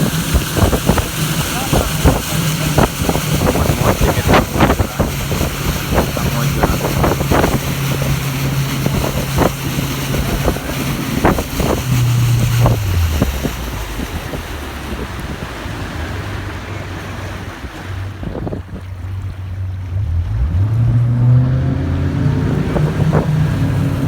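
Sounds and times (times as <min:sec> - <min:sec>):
boat motor running: 0:00.0 - 0:24.0
water noise: 0:00.0 - 0:24.0
wind: 0:00.0 - 0:24.0.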